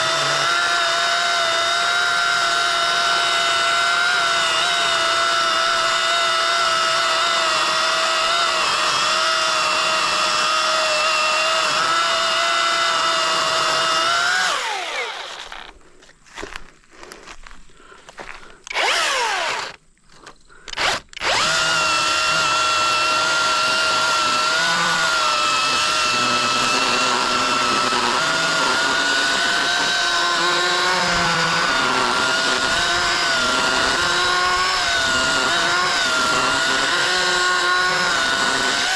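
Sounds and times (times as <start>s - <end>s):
battery chainsaw motor whining: 0.0s - 16.1s, 18.1s - 38.9s.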